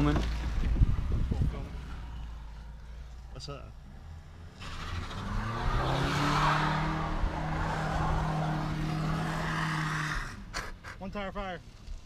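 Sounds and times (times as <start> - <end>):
car engine revving: 0.0 - 10.7
tire squealing: 0.0 - 11.1.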